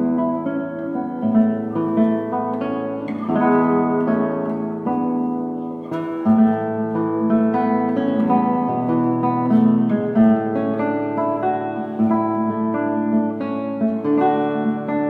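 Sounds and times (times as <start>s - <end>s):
acoustic guitar playing chords: 0.0s - 15.0s.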